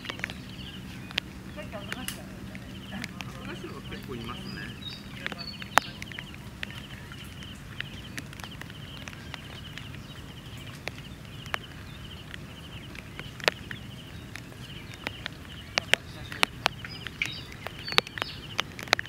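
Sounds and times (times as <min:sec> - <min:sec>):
sharp clicks and taps: 0:00.0 - 0:19.0.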